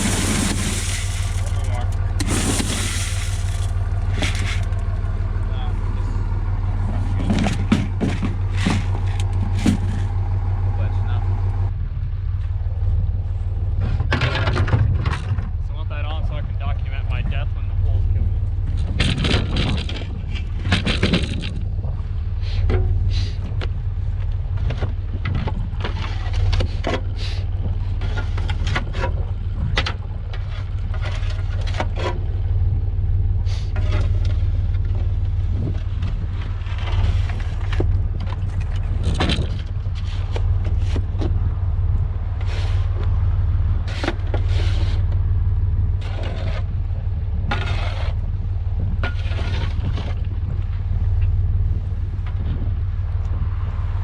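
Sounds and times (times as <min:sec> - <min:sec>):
clanks and rattles: 0:00.0 - 0:10.4, 0:13.8 - 0:45.3, 0:45.9 - 0:51.4
farm vehicle engine droning: 0:00.0 - 0:54.0.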